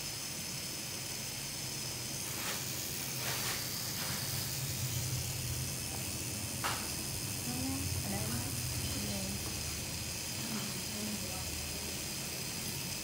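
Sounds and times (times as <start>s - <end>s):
constant hiss: 0.0s - 13.0s
tattoo machine humming: 0.0s - 13.0s.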